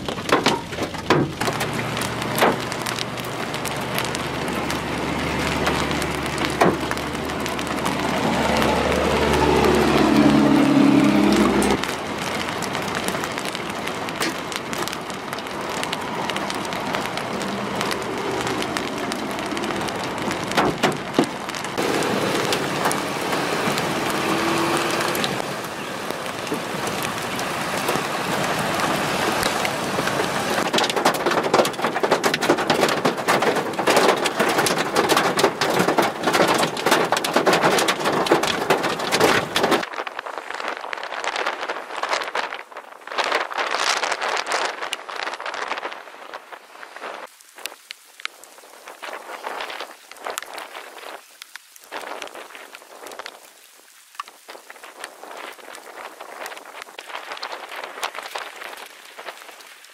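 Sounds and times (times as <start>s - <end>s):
hailstones striking: 0.0s - 59.9s
heavy rain hiss: 1.4s - 59.9s.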